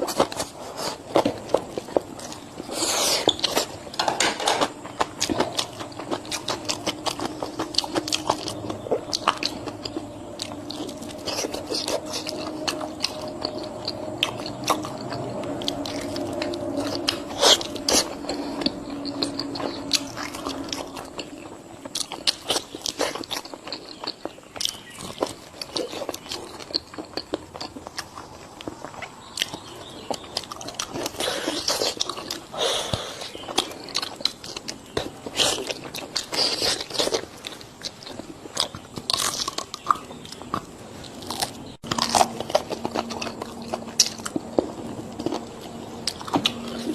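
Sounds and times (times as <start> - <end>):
chewing crunchy food: 0.0 - 46.9.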